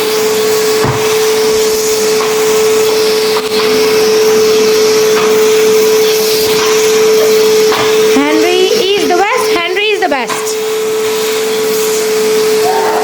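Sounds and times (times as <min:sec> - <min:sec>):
vacuum cleaner motor whine: 0:00.0 - 0:13.0
vacuum sucking up debris: 0:00.0 - 0:13.0.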